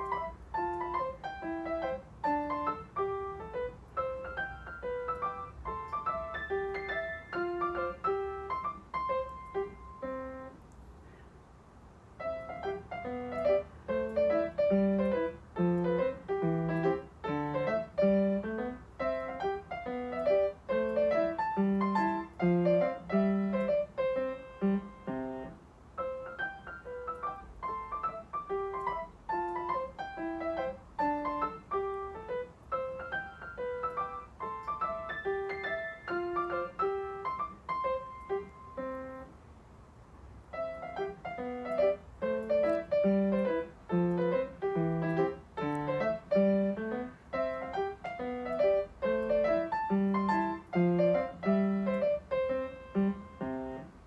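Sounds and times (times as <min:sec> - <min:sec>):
gentle piano melody: 0:00.0 - 0:11.2, 0:12.0 - 0:54.0.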